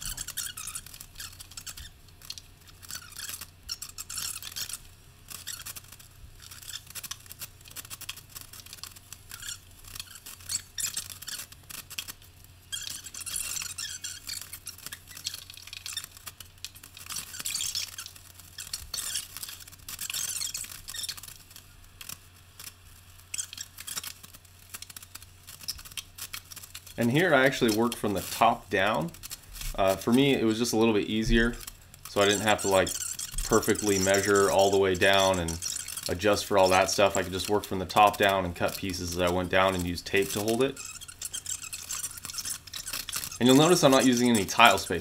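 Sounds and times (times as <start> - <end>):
sped-up clicks taps and scrapes: 0.0 - 45.0.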